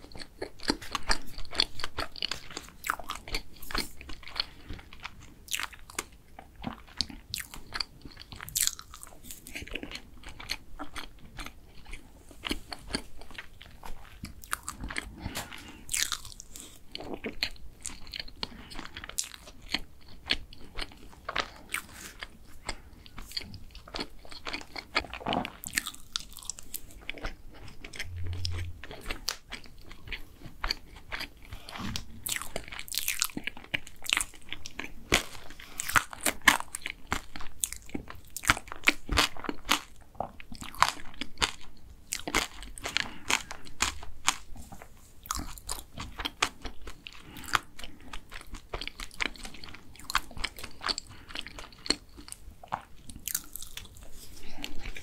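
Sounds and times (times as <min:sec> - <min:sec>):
chewing cake: 0:00.0 - 0:55.0.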